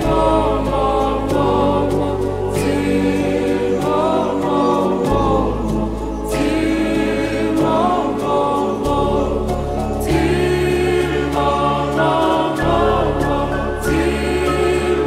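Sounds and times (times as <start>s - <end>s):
song with sung vocals: 0.0s - 15.0s.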